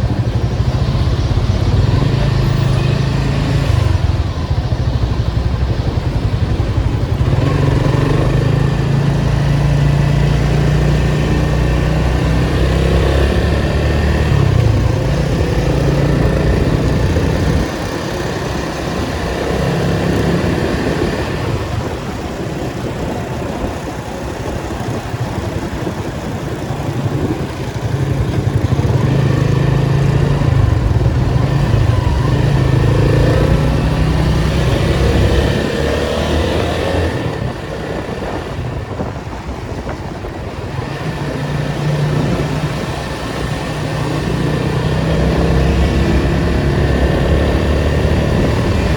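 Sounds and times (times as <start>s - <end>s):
car engine revving: 0.0s - 22.1s, 26.5s - 38.4s, 40.7s - 48.9s.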